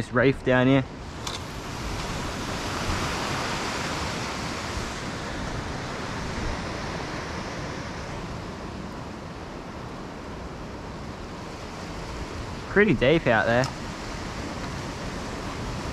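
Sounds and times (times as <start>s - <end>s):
wind on microphone: 0.0s - 15.9s
sea swell washing against rock: 1.0s - 15.9s.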